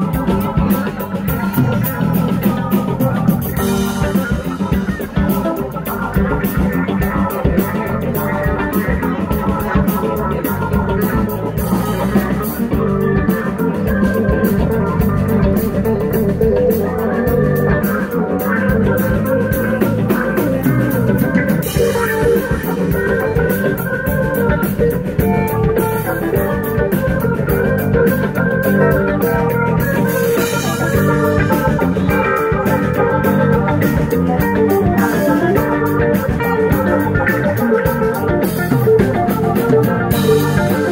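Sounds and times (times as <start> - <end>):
bass guitar: 0.0 - 40.9
drum kit: 0.0 - 40.9
electric guitars: 0.0 - 40.9
organ-sounding keyboard: 0.0 - 40.9.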